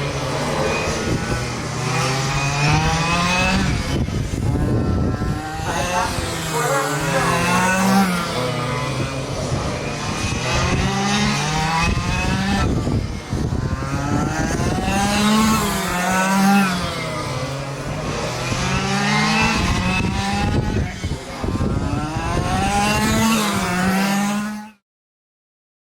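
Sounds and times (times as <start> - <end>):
rc truck motors revving: 0.0 - 24.7.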